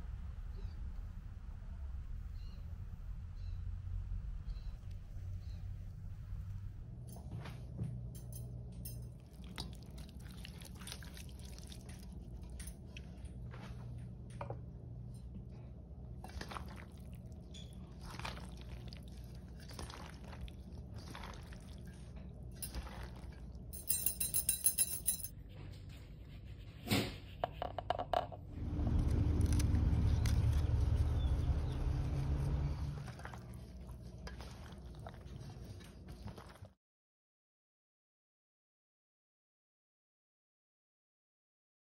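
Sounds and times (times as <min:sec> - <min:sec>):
low steady hum: 0:00.0 - 0:36.6.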